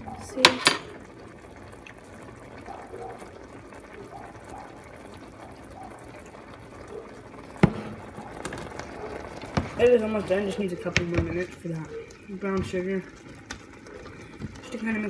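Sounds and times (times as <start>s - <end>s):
sauce simmering in a skillet: 0.0s - 15.0s.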